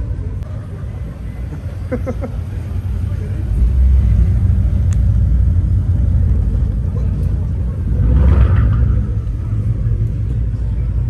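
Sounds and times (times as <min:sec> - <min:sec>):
car engine rumbling past: 0:01.3 - 0:11.0.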